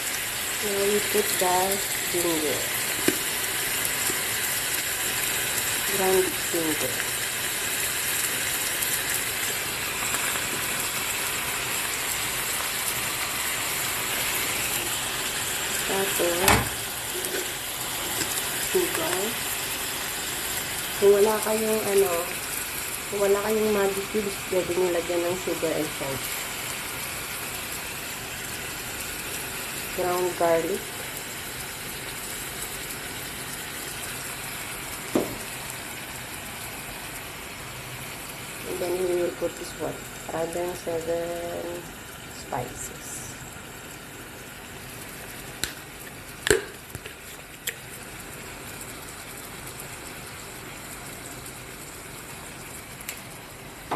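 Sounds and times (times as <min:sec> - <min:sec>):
chicken sizzling in hot oil: 0:00.0 - 0:53.9.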